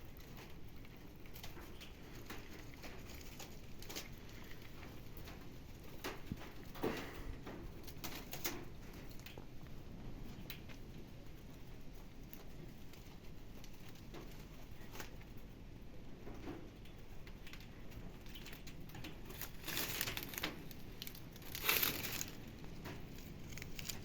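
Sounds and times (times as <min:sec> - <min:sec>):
rabbits pattering in cages: 0:00.0 - 0:24.0.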